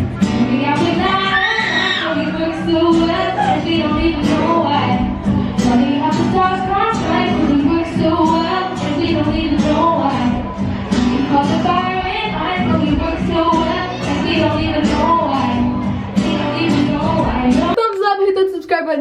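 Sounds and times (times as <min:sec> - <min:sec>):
pop song with female vocals: 0:00.1 - 0:18.7.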